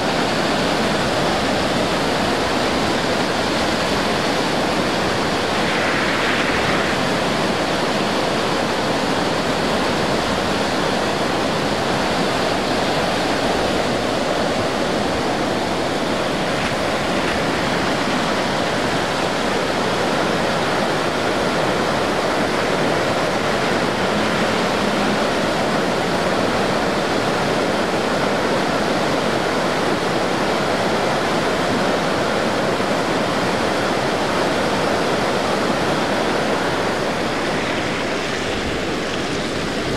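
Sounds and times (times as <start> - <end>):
creek rushing over boulders: 0.0 - 39.9.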